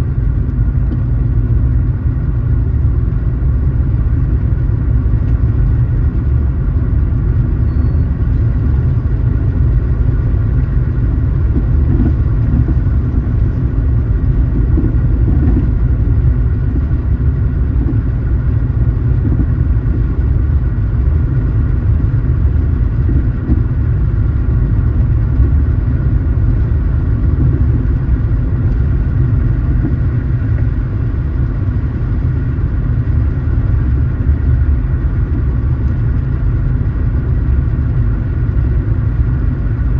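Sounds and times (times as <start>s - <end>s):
car engine and road rumble: 0.0s - 39.9s
faint steady whine: 0.0s - 39.9s.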